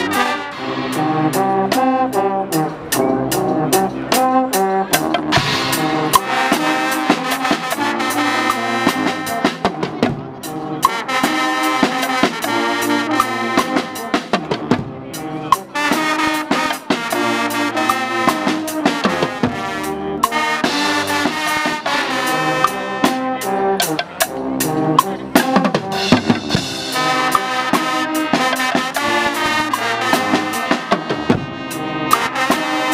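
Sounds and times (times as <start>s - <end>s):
brass section playing: 0.0s - 32.9s
drum kit and bass drum beat: 0.0s - 32.9s.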